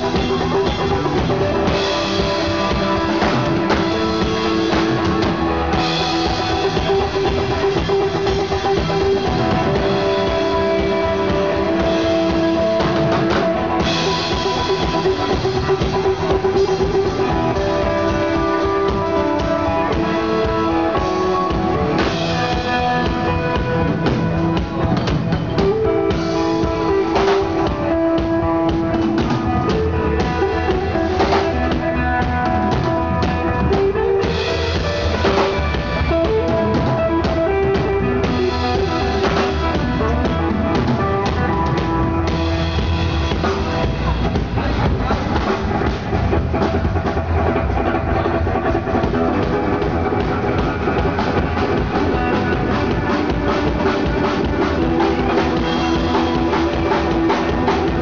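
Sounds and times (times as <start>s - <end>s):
drum kit: 0.0s - 58.0s
guitar: 0.0s - 58.0s
live band playing: 0.0s - 58.0s.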